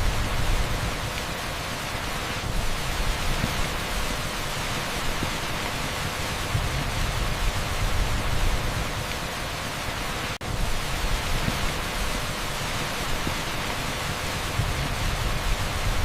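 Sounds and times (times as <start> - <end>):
heavy rain on asphalt: 0.0 - 16.0.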